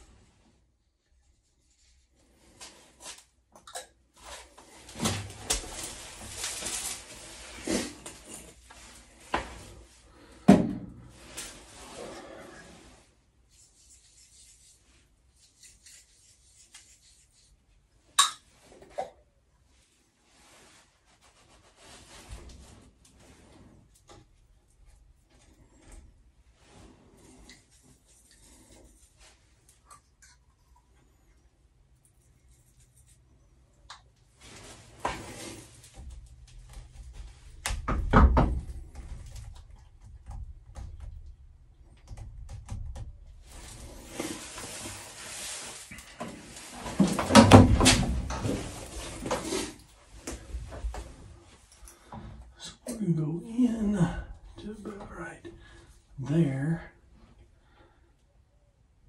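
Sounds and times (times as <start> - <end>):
pipe scraping and rustling: 0.0 - 3.3, 4.2 - 17.8, 19.7 - 42.3, 43.3 - 52.9.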